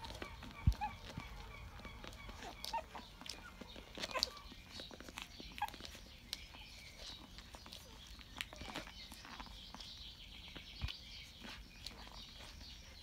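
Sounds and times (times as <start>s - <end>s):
puppy squeaks: 0.0s - 10.6s
puppies suckling: 0.0s - 13.0s.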